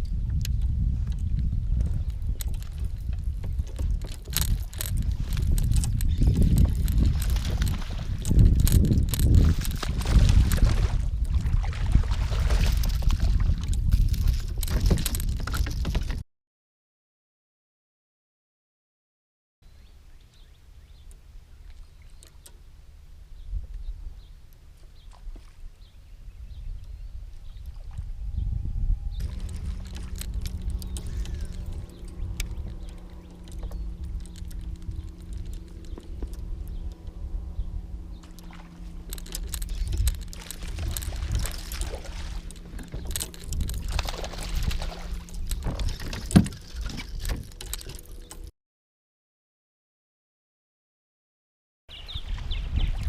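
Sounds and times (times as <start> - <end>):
water and wind rumble: 0.0 - 16.2, 19.7 - 48.5, 51.9 - 53.0.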